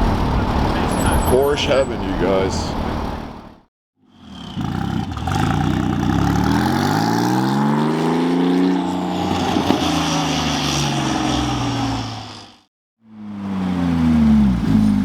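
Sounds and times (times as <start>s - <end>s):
car engine accelerating: 0.0s - 3.6s, 4.5s - 15.0s.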